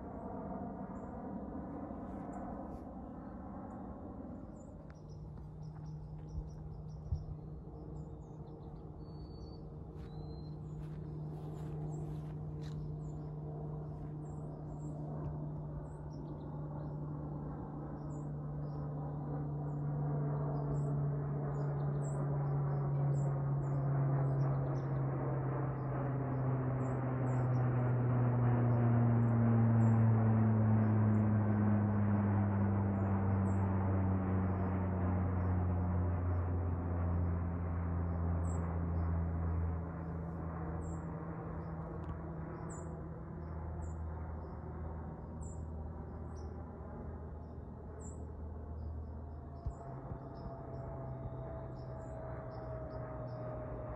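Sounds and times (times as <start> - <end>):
propeller aircraft drone: 0.0 - 53.9.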